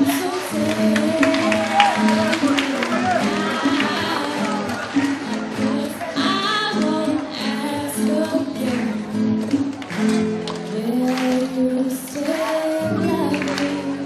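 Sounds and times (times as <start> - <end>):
girl singing: 0.0 - 9.3, 10.7 - 14.0
acoustic guitar strummed: 0.0 - 14.0.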